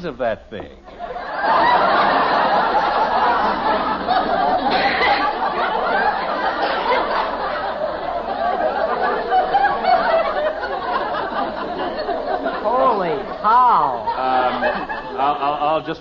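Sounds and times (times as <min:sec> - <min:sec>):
studio audience laughing: 0:00.9 - 0:15.8.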